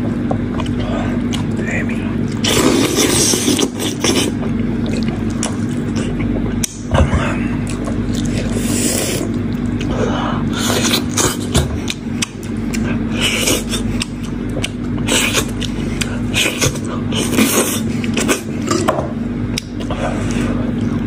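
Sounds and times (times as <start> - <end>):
wet eating sounds: 0.4 - 18.9.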